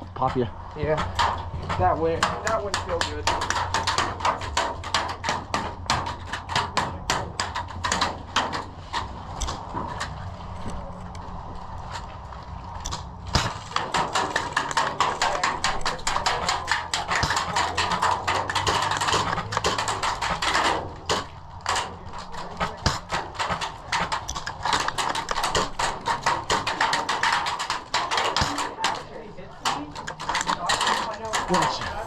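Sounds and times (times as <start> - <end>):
pellets striking nearby: 0.0 - 11.0, 12.8 - 32.0.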